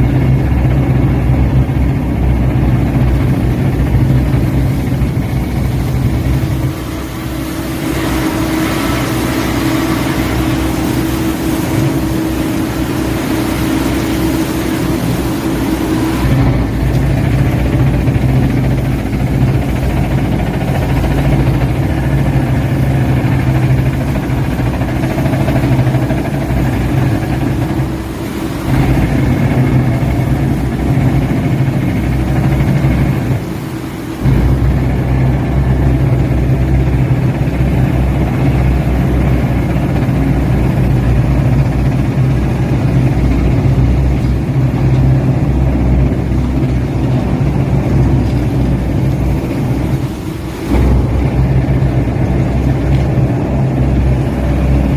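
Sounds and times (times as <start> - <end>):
piling rig engine running: 0.0 - 54.9.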